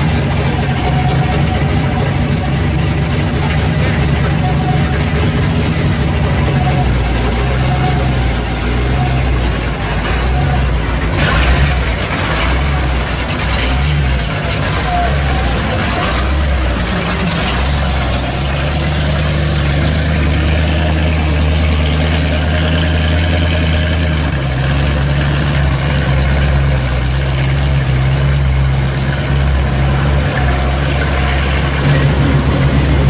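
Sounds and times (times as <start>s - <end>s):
car engine running at low speed: 0.0s - 33.0s
deep exhaust note: 0.0s - 33.0s.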